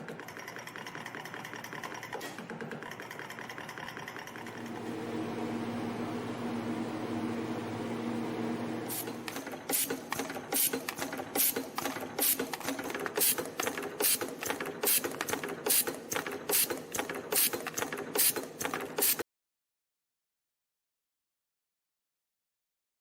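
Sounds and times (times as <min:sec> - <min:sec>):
spring machine humming and clattering: 0:00.0 - 0:19.2.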